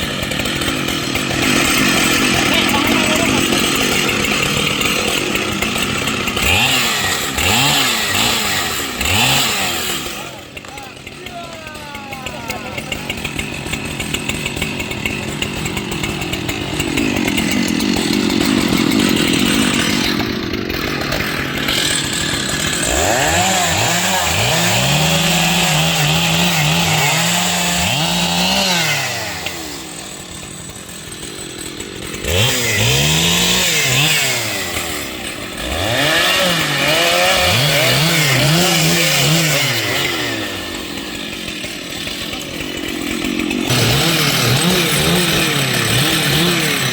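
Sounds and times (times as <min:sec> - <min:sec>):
chainsaw revving and idling: 0:00.0 - 0:46.9.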